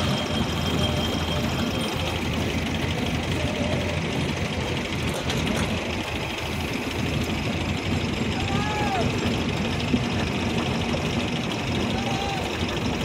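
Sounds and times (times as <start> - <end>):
tractor diesel engines running: 0.0 - 13.0.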